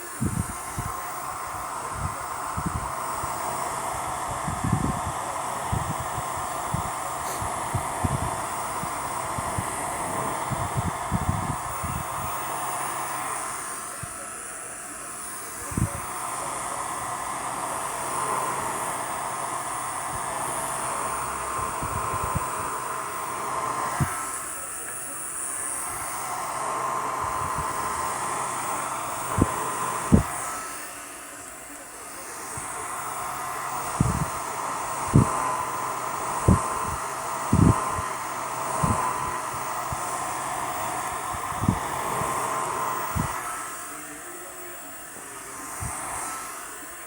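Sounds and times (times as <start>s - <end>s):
hair dryer whining: 0.0s - 47.0s.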